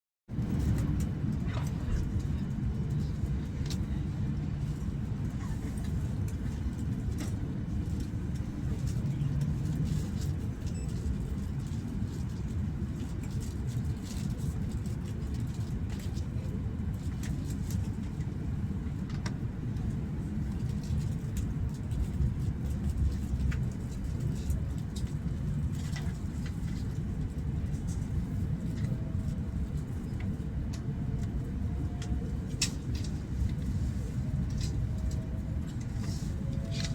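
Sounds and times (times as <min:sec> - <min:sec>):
train cabin low rumble: 0:00.3 - 0:36.9.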